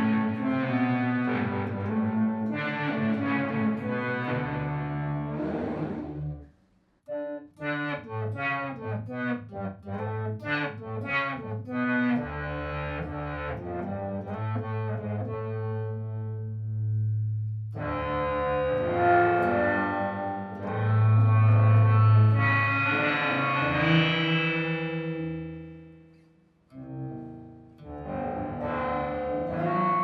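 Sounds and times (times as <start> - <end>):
distorted electric guitar: 0.0 - 6.4, 7.1 - 17.2, 17.8 - 26.2, 26.8 - 30.0.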